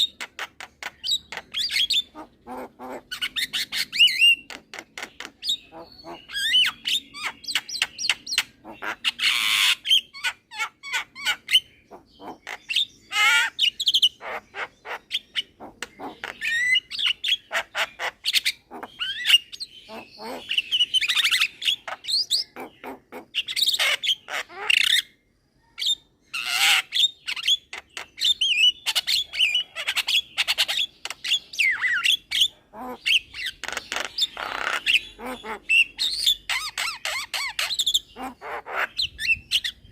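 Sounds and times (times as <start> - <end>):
myna bird singing: 0.0 - 39.9.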